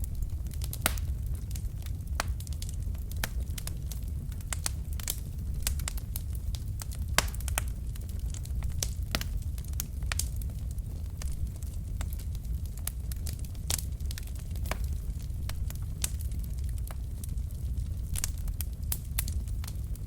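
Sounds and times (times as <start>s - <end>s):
logs crackling and popping: 0.0s - 20.0s
low rumble of flames: 0.0s - 20.0s.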